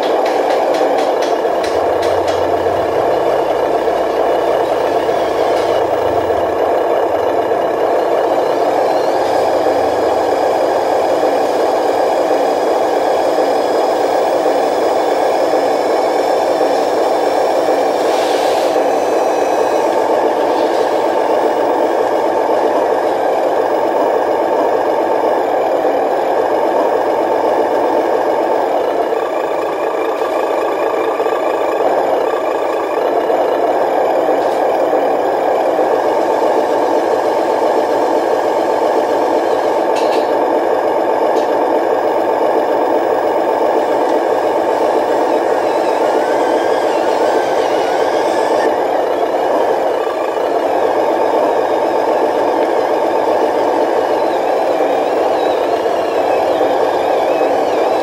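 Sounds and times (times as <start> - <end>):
toy truck mechanical whir: 0.0 - 58.0.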